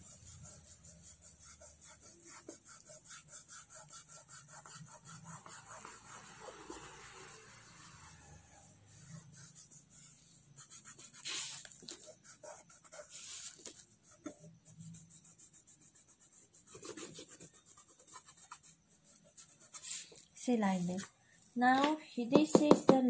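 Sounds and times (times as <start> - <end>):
fingertips rubbing on paper: 0.0 - 21.1.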